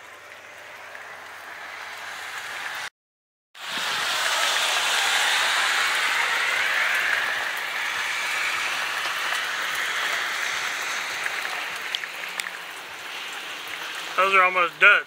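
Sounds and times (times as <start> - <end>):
rain falling: 0.0 - 2.9, 3.6 - 15.0.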